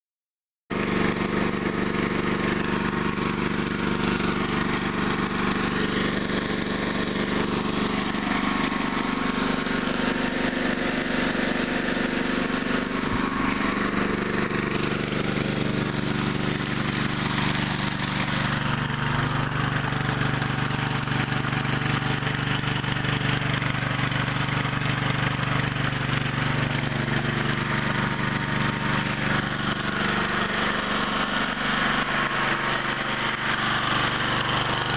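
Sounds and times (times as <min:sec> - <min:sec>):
engine-driven water pump running: 0:00.7 - 0:34.9
water gushing from pipe: 0:00.8 - 0:34.9.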